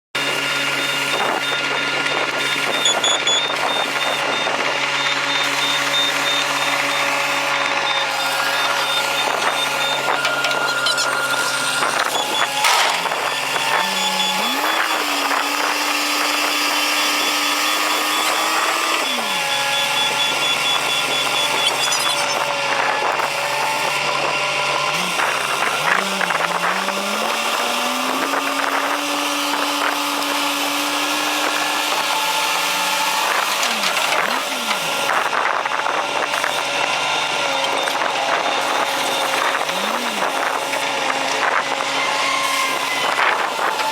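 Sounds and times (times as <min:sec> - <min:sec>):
diesel engine revving: 0:00.2 - 0:43.9.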